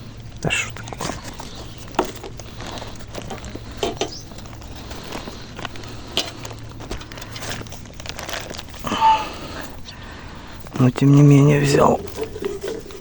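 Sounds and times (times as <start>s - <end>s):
handling knocks taps and rustling: 0.0s - 8.9s, 10.5s - 13.0s
low steady hum: 0.0s - 13.0s.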